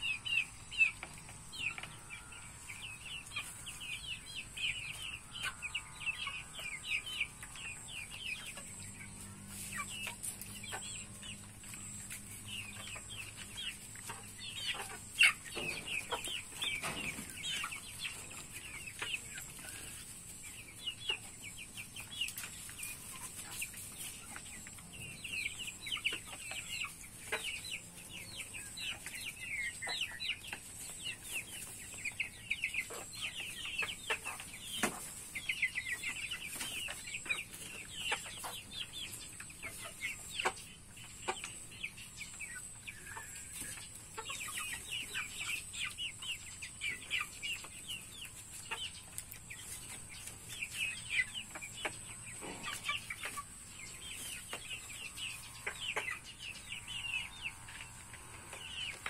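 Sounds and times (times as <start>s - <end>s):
chicks peeping and chirping: 0.0s - 59.0s.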